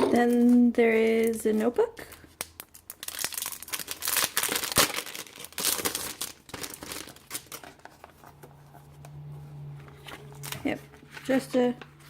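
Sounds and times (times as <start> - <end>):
wrapping crinkling and tearing: 0.3 - 8.4, 10.0 - 12.0.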